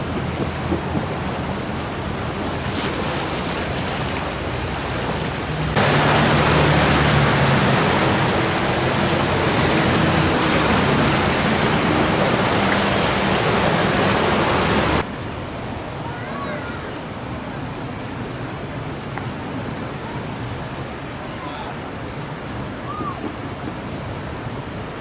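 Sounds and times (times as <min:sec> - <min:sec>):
flooded river rushing: 0:00.0 - 0:25.0.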